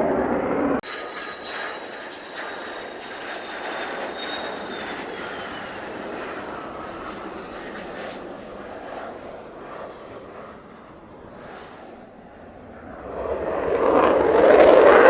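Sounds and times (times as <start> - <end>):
jet engine rushing and whining: 0.0 - 15.0.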